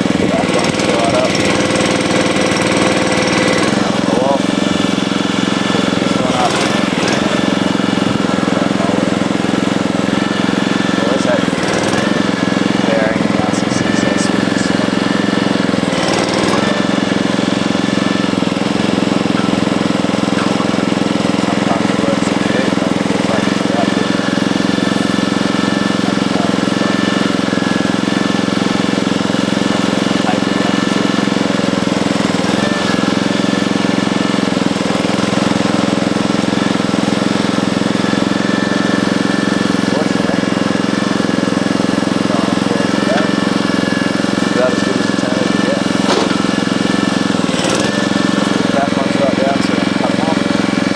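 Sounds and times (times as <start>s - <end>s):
sawmill engine droning: 0.0s - 50.9s.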